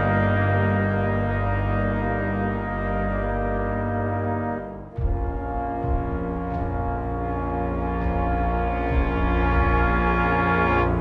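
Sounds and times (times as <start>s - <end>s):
background music low sustained chords: 0.0s - 11.0s.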